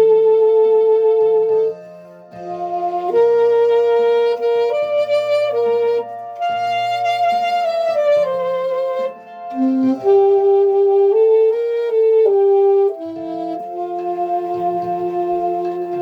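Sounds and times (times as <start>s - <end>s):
saxophone playing slow melody: 0.0s - 16.0s
sustained low accompaniment notes: 0.0s - 16.0s.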